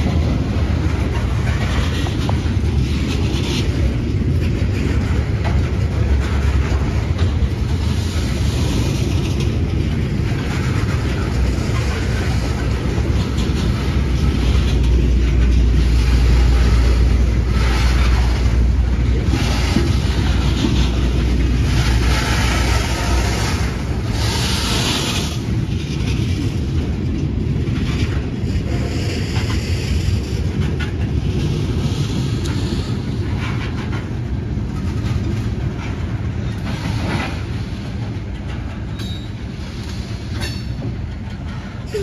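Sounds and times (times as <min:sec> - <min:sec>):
freight train rumbling past: 0:00.0 - 0:42.0
wheels clicking over rail joints: 0:00.0 - 0:42.0.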